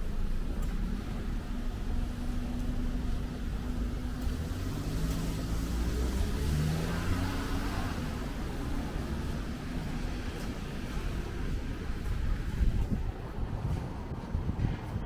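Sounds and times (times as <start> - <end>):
vehicle engine running close by: 0.0 - 14.7
low traffic rumble: 0.0 - 15.0.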